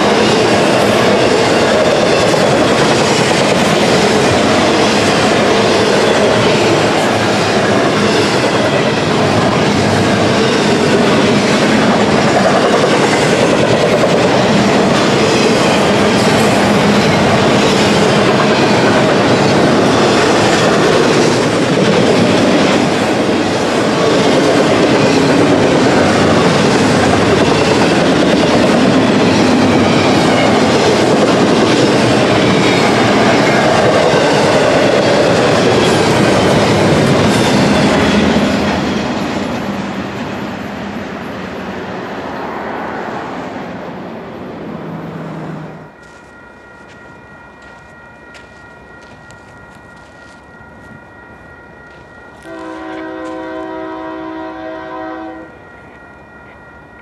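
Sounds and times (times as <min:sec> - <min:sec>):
train wheels rumbling and clattering: 0:00.0 - 0:43.0, 0:45.0 - 0:54.0.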